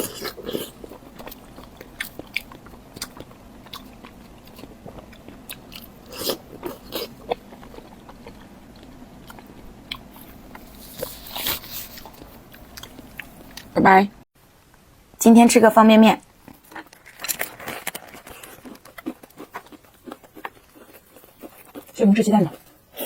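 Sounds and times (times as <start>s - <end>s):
chewing and biting: 0.0s - 13.7s, 16.5s - 23.0s.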